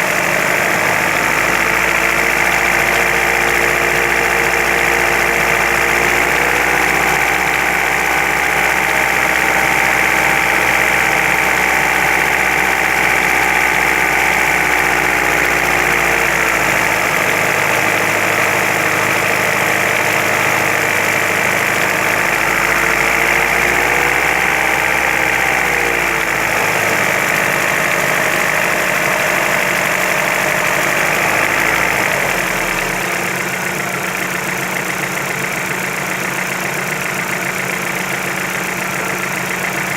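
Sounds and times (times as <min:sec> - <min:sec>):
vehicle engine idling with knocking: 0:00.0 - 0:39.9.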